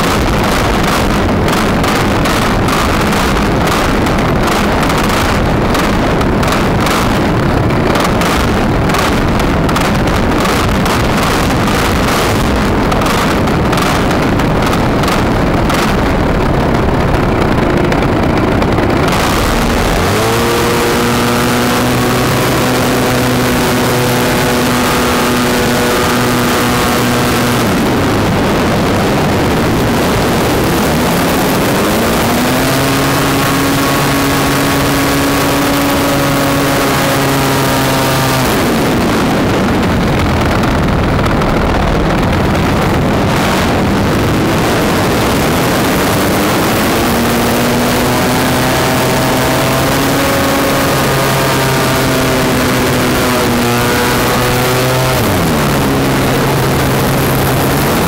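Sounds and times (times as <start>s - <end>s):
plane engine drone: 0.0s - 58.0s
wind buffeting microphone: 0.0s - 58.0s.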